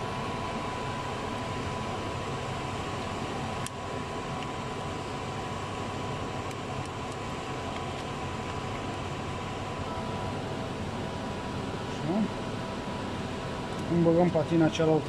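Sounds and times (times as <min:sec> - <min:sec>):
workshop hiss and hum: 0:00.0 - 0:15.0.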